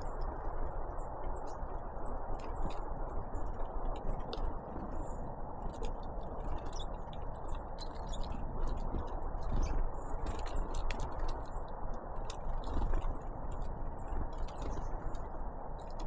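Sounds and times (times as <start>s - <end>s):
birds pecking at seed: 0.4s - 16.0s.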